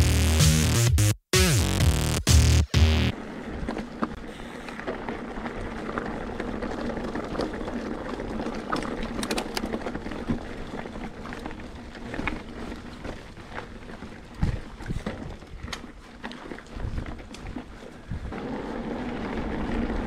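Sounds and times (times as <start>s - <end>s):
bike clicks and rattles: 3.1s - 20.0s
tyres crunching on rock and gravel: 3.1s - 20.0s.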